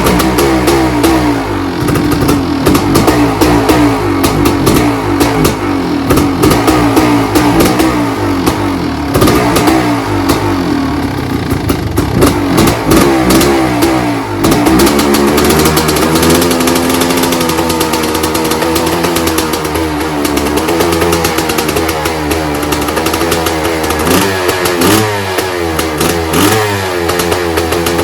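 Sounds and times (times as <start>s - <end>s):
two-stroke motorcycle engine revving: 0.0s - 28.0s.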